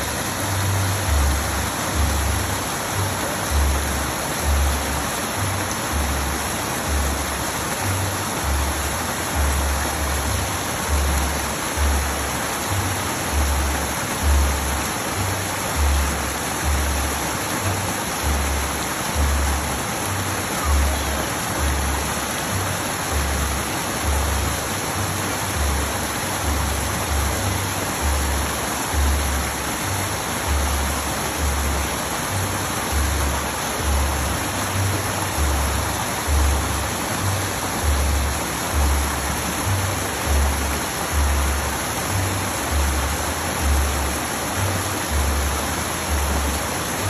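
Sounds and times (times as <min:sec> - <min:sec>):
background music with bass beat: 0:00.0 - 0:47.0
water cascading into a pool: 0:00.0 - 0:47.0.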